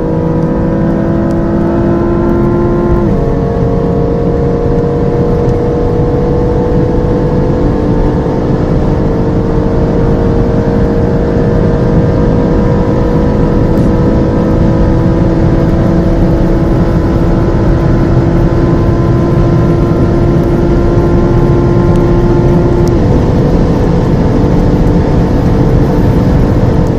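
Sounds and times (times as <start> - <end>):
sports car engine at high speed: 0.0 - 26.9.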